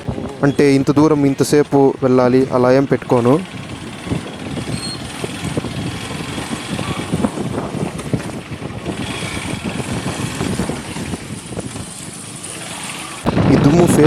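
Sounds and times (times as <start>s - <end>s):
motorcycle running: 0.0s - 13.9s
wind buffeting microphone: 0.0s - 14.0s.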